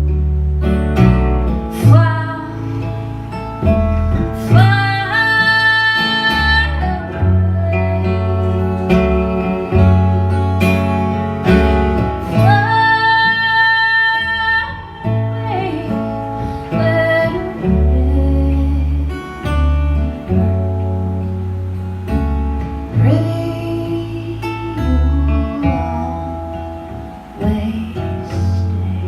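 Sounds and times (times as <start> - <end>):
low bass notes: 0.0 - 29.0
plucked acoustic guitar: 0.0 - 29.0.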